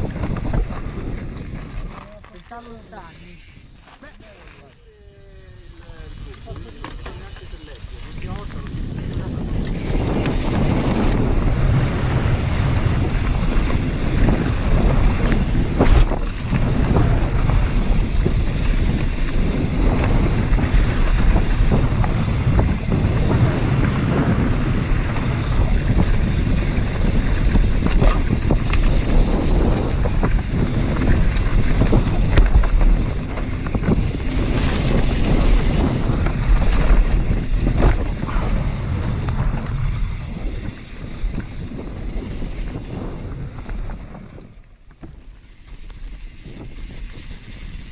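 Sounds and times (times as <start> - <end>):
bike knocks and rattles: 0.0 - 2.7, 6.4 - 47.9
wind rush on microphone: 0.0 - 3.8, 5.2 - 47.9
tyre noise on dirt: 0.0 - 47.9.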